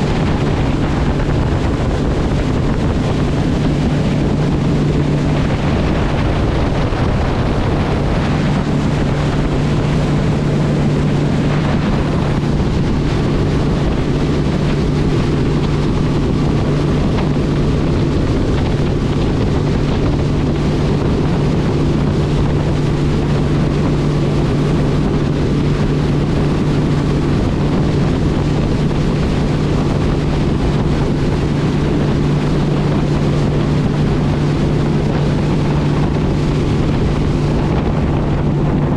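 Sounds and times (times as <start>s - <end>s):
vehicle engine drone: 0.0s - 38.9s
wind noise on microphone: 0.0s - 38.9s.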